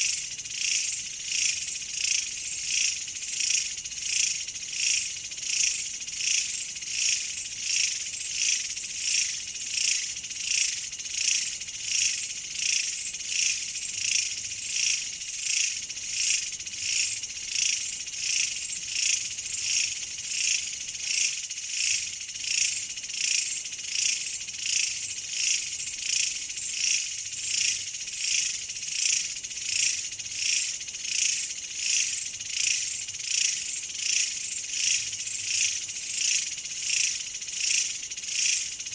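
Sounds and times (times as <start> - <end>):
pulsing insect chorus: 0.0 - 38.9.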